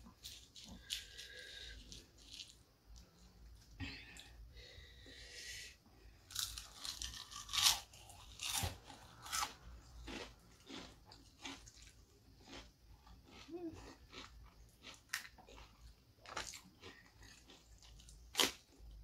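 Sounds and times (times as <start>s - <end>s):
crunchy chewing of fried chicken: 0.0s - 3.2s, 6.3s - 19.0s.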